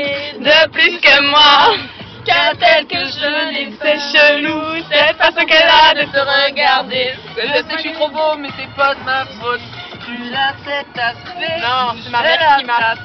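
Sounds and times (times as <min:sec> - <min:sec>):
people singing with music: 0:00.0 - 0:13.0.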